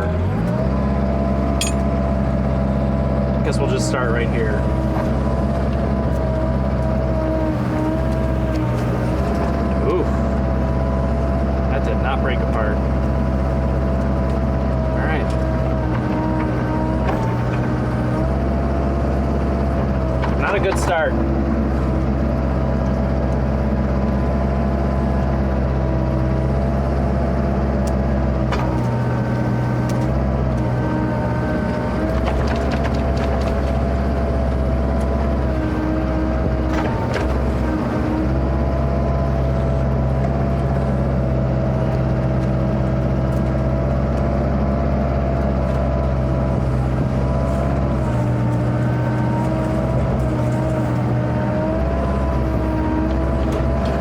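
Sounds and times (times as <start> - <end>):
hydraulic whine: 0.0 - 26.9, 27.8 - 54.0
diesel engine running: 0.0 - 54.0.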